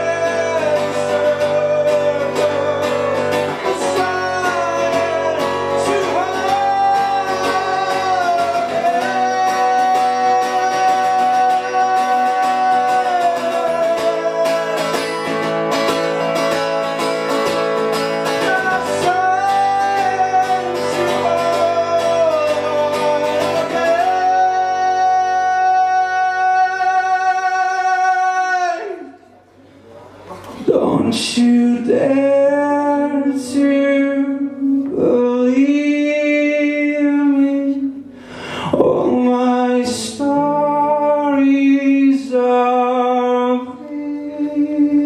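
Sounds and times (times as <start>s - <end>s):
man singing long notes: 0.0s - 15.6s, 18.1s - 29.3s, 30.7s - 45.0s
acoustic guitar strumming: 0.0s - 29.3s, 30.7s - 45.0s.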